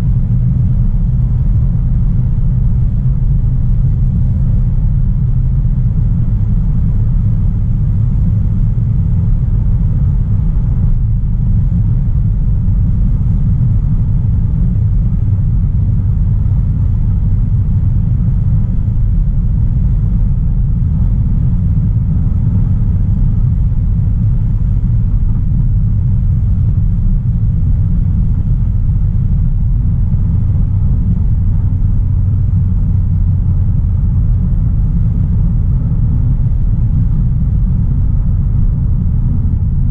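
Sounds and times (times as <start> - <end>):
road and engine rumble in car: 0.0 - 39.9.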